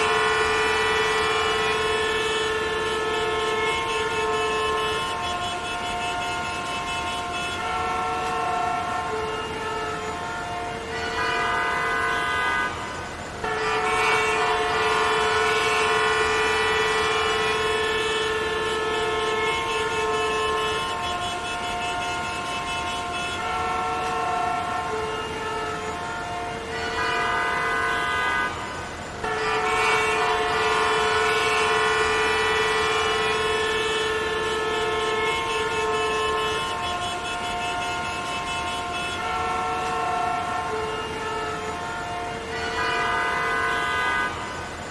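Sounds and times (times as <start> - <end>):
many car horns honking: 0.0 - 44.9.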